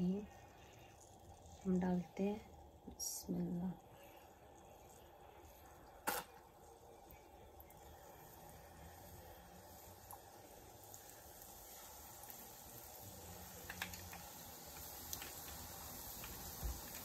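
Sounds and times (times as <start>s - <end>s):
batter sizzling in oil: 0.0s - 17.0s
small oil crackles: 0.0s - 17.0s.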